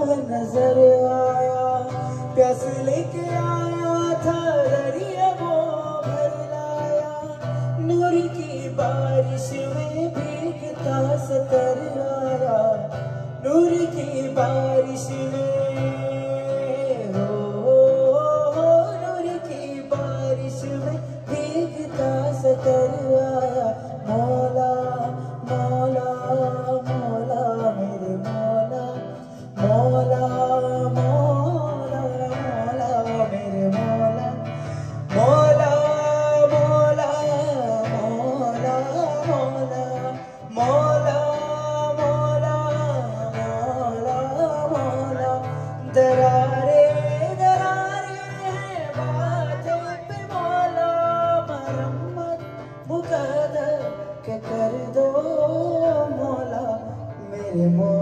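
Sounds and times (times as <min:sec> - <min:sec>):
acoustic guitar: 0:00.0 - 0:58.0
man singing: 0:00.0 - 0:58.0.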